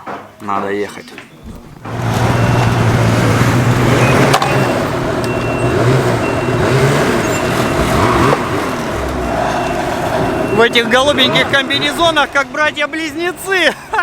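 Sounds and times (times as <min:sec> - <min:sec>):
snowmobile engine running: 0:01.8 - 0:14.0.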